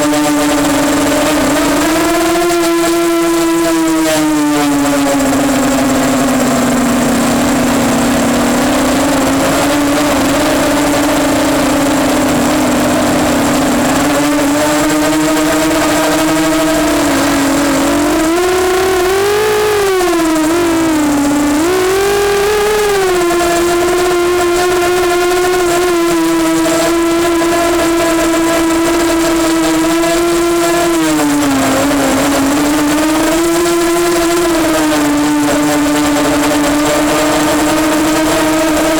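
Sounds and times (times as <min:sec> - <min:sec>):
quadcopter propellers whining: 0:00.0 - 0:38.9.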